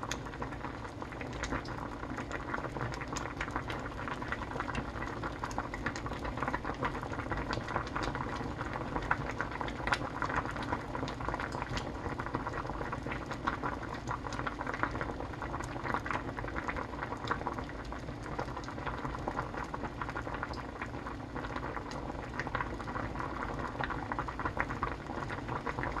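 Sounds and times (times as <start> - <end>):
stew bubbling and popping: 0.0 - 26.0.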